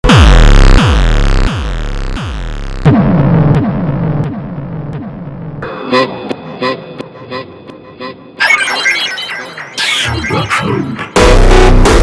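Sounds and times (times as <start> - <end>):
heavy synth bass with falling sweeps: 0.0 - 10.3, 11.2 - 12.0.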